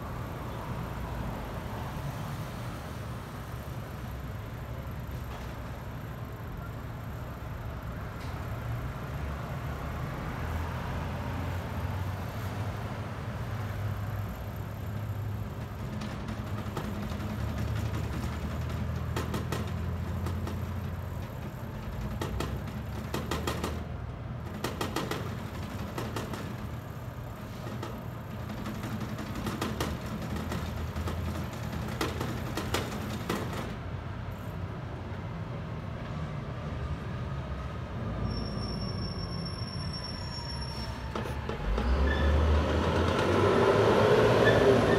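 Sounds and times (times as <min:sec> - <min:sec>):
traffic engine rumble: 0:00.0 - 0:44.9.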